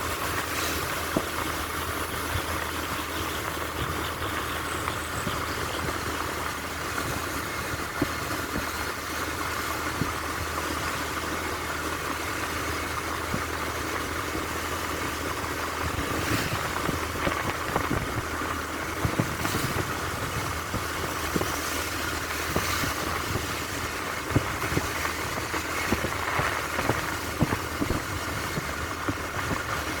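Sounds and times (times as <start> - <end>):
engine running at low revs: 0.0 - 30.0.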